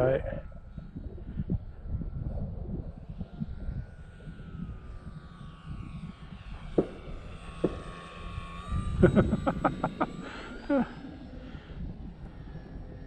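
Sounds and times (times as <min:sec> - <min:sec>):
electric model plane motor whining: 0:00.0 - 0:13.0
gusty wind: 0:00.0 - 0:13.0.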